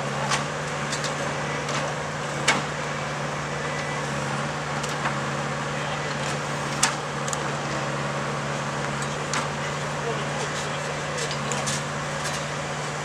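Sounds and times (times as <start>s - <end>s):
track maintenance machine engine: 0.0s - 13.0s.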